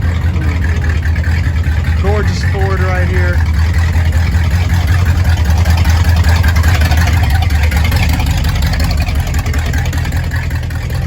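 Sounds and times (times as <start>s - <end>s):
car engine rumbling past: 0.0s - 11.0s.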